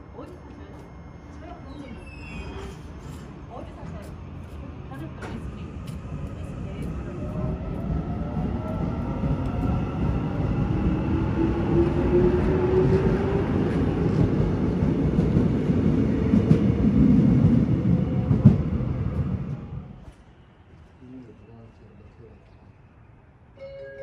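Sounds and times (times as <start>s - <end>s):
train wheels rumbling on rail: 0.1s - 20.2s.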